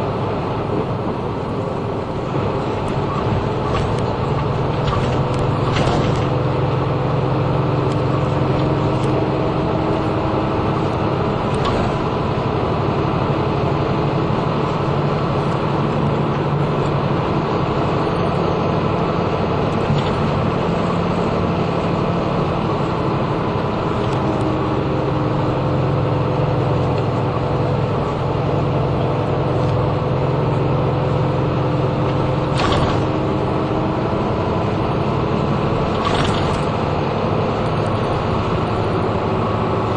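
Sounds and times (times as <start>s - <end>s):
diesel engine drone: 0.0s - 39.9s
interior rattles and clicks: 0.0s - 39.9s
road noise: 0.0s - 39.9s.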